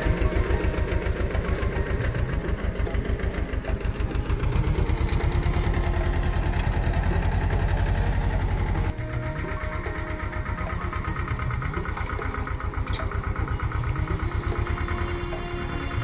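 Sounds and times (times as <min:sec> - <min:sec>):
tractor diesel engine chugging: 0:00.0 - 0:16.0.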